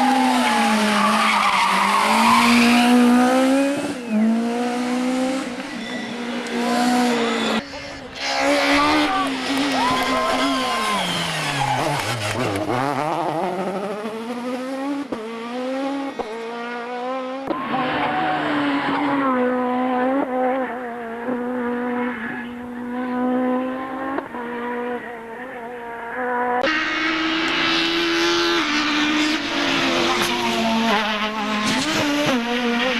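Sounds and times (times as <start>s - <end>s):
car engine at high revs: 0.0s - 32.9s.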